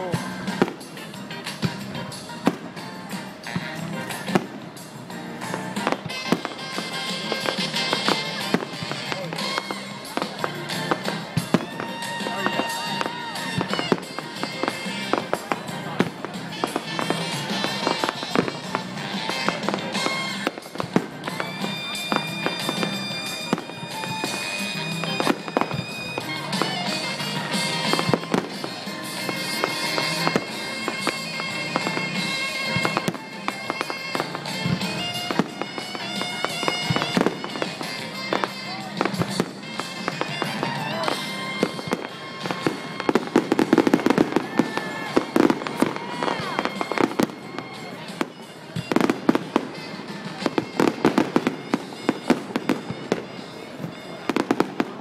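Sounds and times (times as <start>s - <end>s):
fireworks bangs and crackles: 0.0s - 55.0s
music with held notes: 0.0s - 55.0s.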